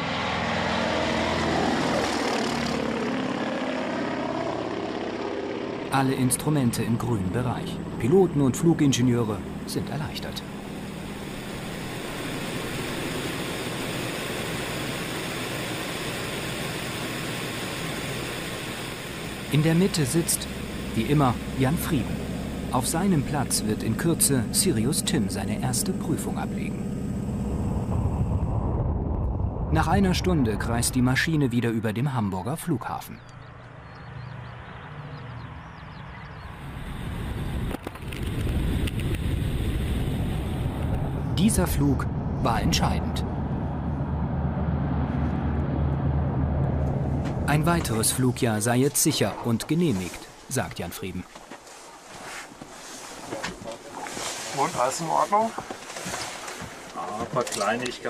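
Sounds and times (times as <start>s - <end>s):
aircraft landing rumble and rush: 0.0s - 58.0s
airplane engines cruising: 0.0s - 58.0s.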